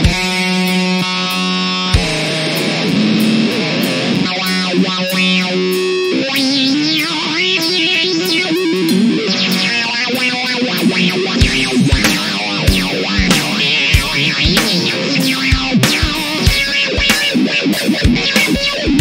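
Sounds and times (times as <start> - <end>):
instrumental rock electric guitar: 0.0 - 19.0.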